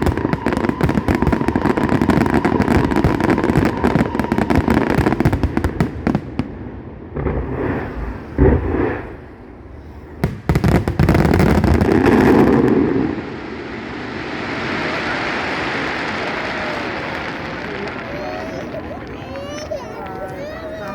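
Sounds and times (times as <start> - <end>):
fireworks crackling pops: 0.0 - 6.5, 7.1 - 9.4, 10.2 - 20.9
fireworks barrage rumble: 0.0 - 20.9
fireworks booming bursts: 0.0 - 20.9
fireworks sharp cracks: 0.0 - 20.9.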